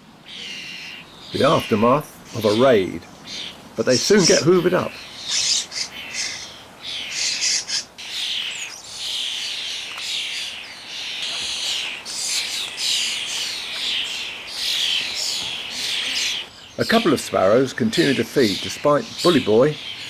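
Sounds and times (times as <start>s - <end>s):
starlings calling in a flock: 0.0s - 20.0s.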